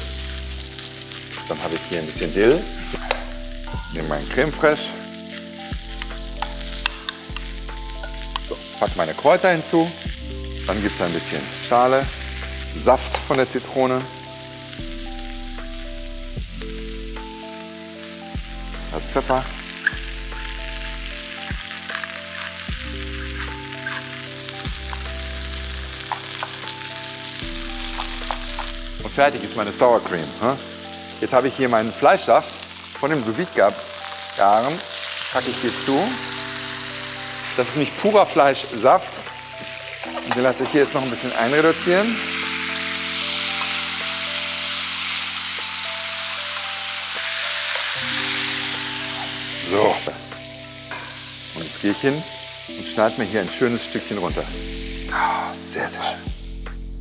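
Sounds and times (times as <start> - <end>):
meat sizzling in a pan: 0.0 - 56.6
background music with held chords: 0.0 - 57.0.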